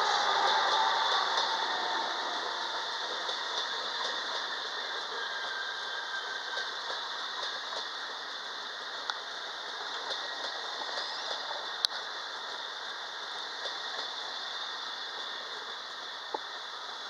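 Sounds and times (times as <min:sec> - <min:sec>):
train rattling past: 0:00.0 - 0:17.0.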